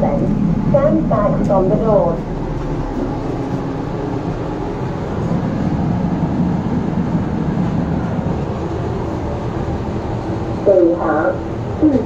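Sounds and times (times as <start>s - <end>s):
lift car rumbling: 0.0s - 12.0s.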